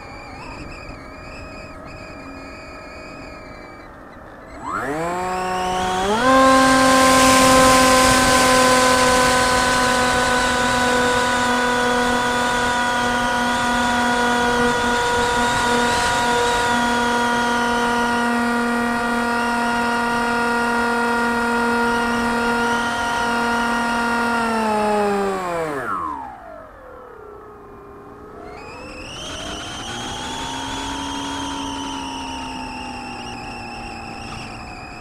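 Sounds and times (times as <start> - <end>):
model plane motor whine: 0.0 - 35.0.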